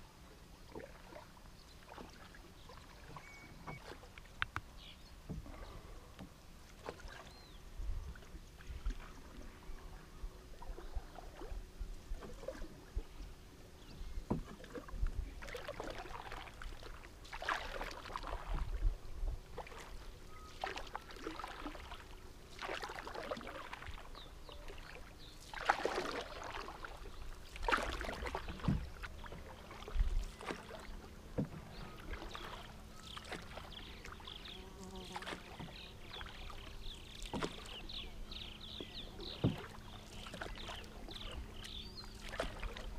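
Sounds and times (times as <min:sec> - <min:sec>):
paddles splashing through water: 0:00.6 - 0:42.9.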